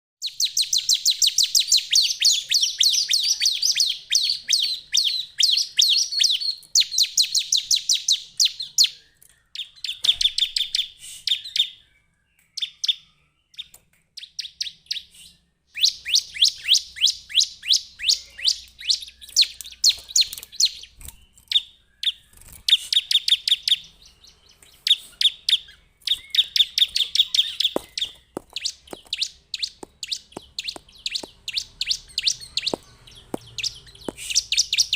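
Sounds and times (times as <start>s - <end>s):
bird calling with rapid chipping notes: 0.2s - 34.9s.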